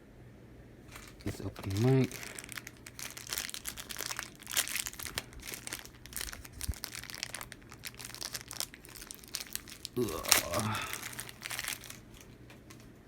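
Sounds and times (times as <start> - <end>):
packaging crinkling: 0.9 - 13.0.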